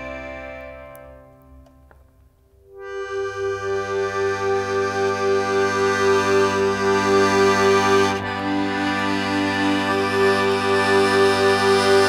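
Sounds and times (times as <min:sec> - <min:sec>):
accordion holding a chord: 0:00.0 - 0:02.0, 0:02.6 - 0:12.0.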